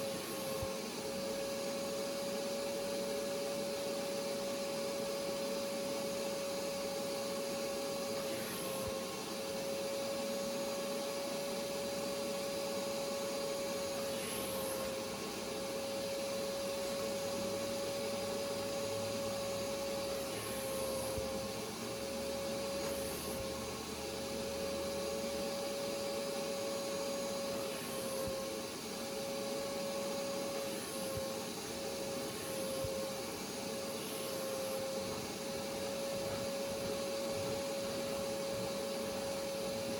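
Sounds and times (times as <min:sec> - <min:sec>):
carpet cleaner suction motor: 0:00.0 - 0:39.9.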